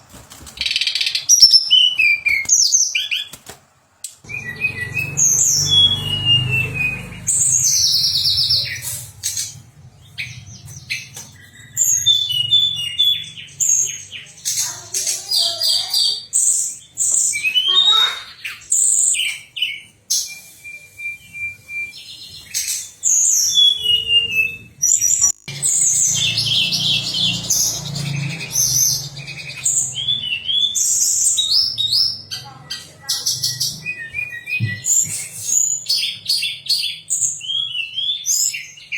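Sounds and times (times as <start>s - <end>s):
songbird singing chirps and trills: 4.1s - 38.9s.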